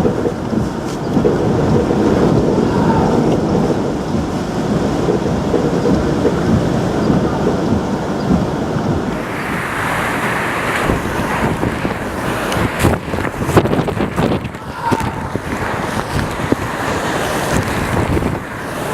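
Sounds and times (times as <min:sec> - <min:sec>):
hissing gust of rain: 0:00.0 - 0:18.9
strong wind buffeting microphone: 0:00.0 - 0:18.9.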